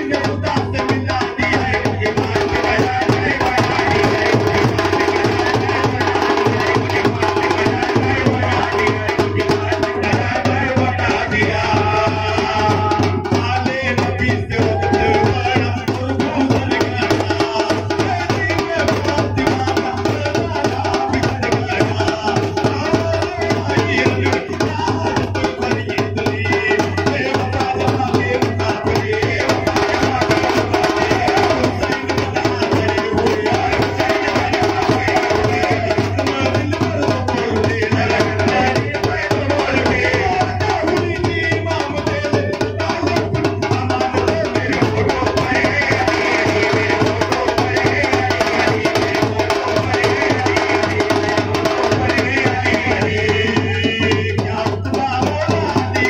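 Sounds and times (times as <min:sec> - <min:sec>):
bass drum: 0:00.0 - 0:56.0
frame drums: 0:00.0 - 0:56.0
men singing through a microphone: 0:00.0 - 0:56.0
side drum beaten with sticks: 0:00.0 - 0:56.0.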